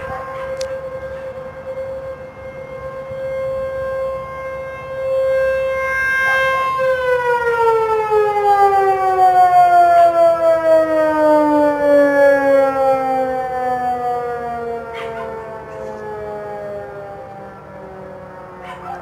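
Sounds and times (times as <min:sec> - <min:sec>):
outdoor tornado siren: 0:00.0 - 0:19.0.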